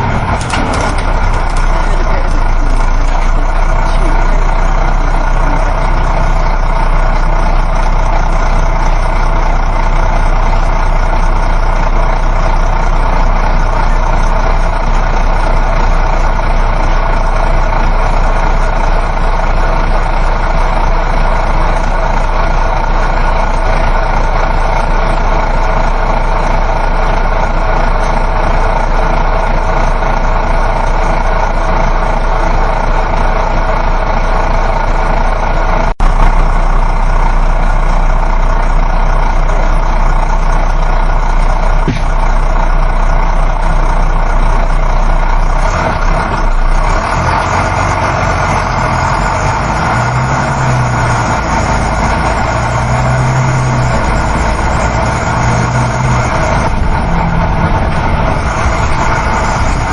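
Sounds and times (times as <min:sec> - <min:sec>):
bus engine drone: 0:00.0 - 0:59.9
road and tyre noise: 0:00.0 - 0:59.9.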